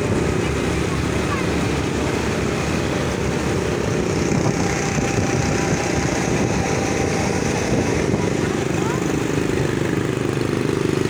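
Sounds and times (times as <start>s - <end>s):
motorcycle engine rumble: 0.0s - 11.0s
road noise: 0.0s - 11.0s
wind buffeting microphone: 0.0s - 11.0s.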